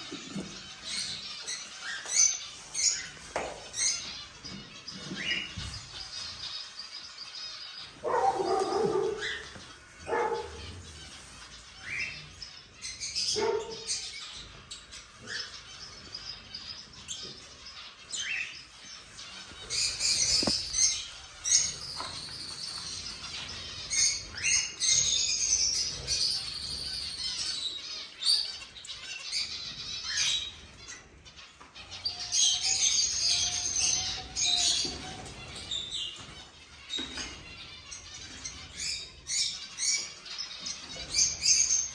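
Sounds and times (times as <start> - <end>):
cockatiels chirping: 0.3 - 41.9.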